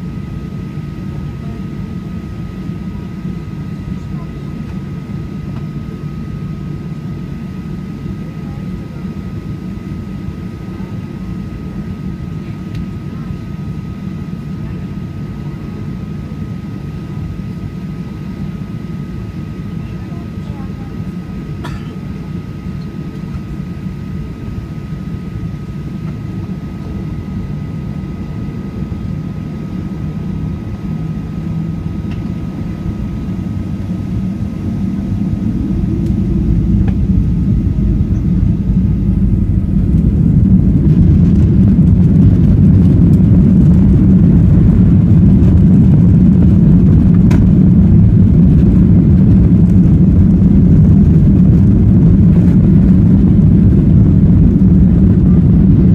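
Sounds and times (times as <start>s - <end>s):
faint steady whine: 0.0s - 55.9s
jet engines deep rumble: 0.0s - 55.9s.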